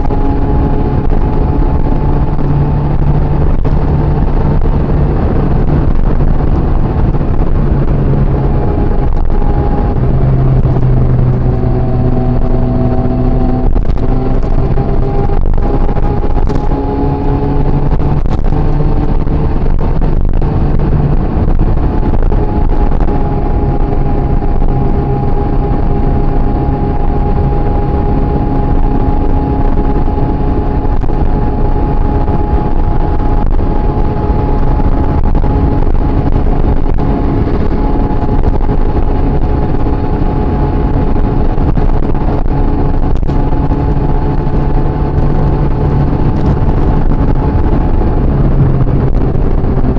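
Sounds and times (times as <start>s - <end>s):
motorcycle engine cruising: 0.0s - 49.9s
wind rush: 0.0s - 49.9s.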